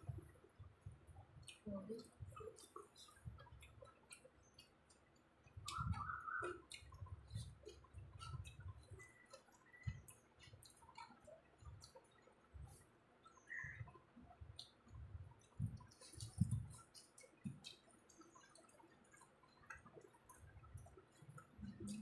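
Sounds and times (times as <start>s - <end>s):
mouth clicks and soft chewing: 0.0s - 22.0s.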